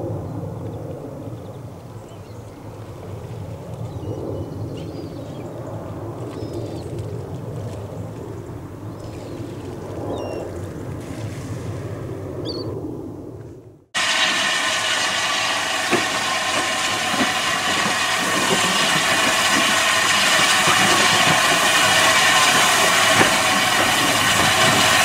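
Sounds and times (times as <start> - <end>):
low rumble of ship engines: 0.0 - 25.0.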